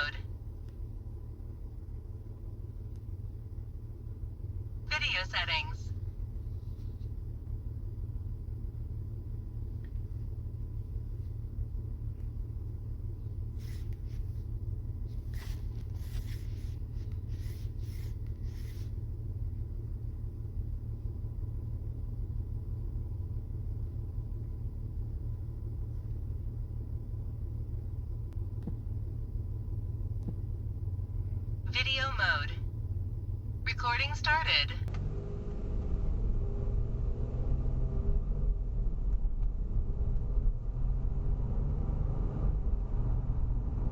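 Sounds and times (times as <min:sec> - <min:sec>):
low rumble in car cabin: 0:00.0 - 0:41.8.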